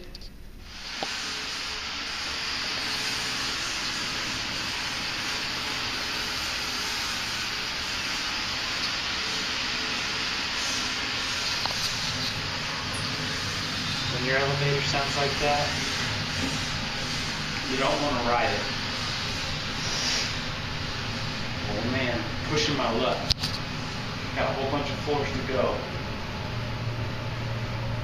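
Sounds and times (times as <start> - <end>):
elevator running: 1.5 - 28.0.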